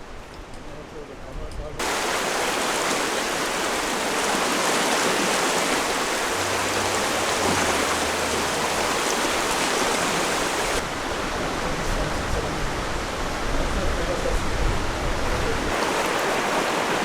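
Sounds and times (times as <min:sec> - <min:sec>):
water rushing: 0:01.8 - 0:14.3, 0:14.9 - 0:17.0.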